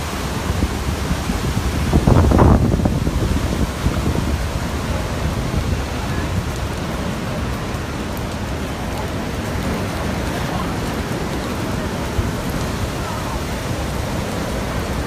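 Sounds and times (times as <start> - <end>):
wind and rain rushing: 0.0 - 15.0.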